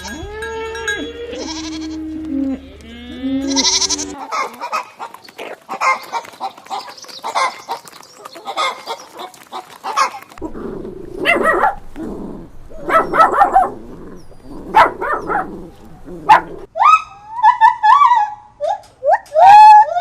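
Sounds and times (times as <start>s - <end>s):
animals calling: 0.0s - 20.0s.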